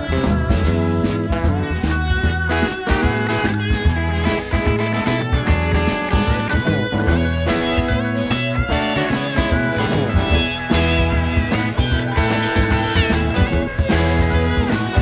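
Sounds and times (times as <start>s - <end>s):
bass and drum beat: 0.0s - 15.0s
electric guitars: 0.0s - 15.0s.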